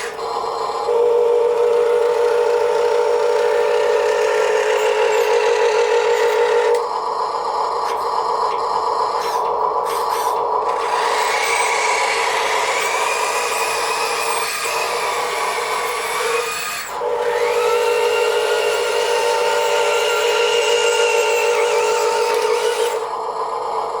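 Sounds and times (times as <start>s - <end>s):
toy truck motors whining: 0.0s - 24.0s.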